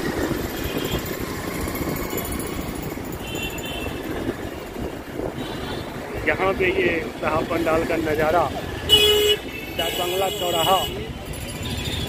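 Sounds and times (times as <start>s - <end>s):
motorcycle and scooter engines: 0.0s - 12.0s.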